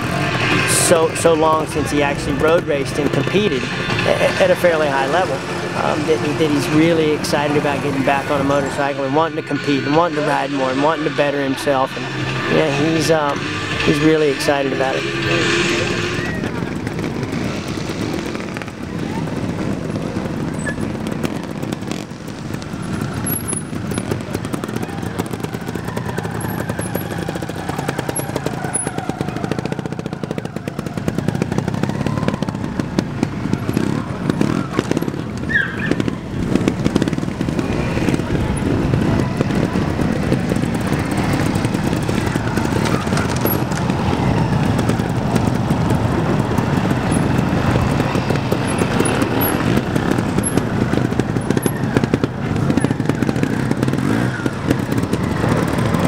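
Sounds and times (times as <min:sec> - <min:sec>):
motorcycle engine popping exhaust: 0:00.0 - 0:56.0.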